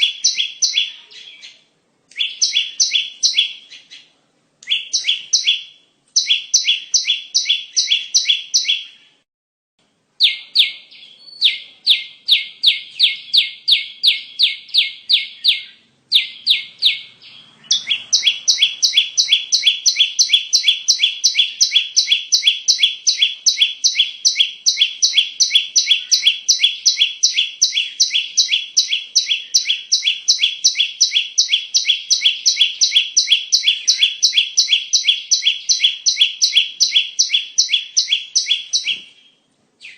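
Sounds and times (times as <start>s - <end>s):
bird sharp repeated chirping: 0.0s - 9.2s, 10.2s - 39.9s.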